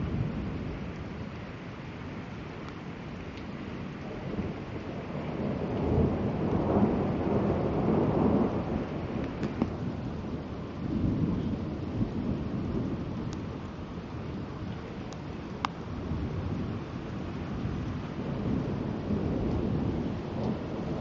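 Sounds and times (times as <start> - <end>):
steady rain: 0.0 - 21.0
thunder rumbling: 3.9 - 21.0.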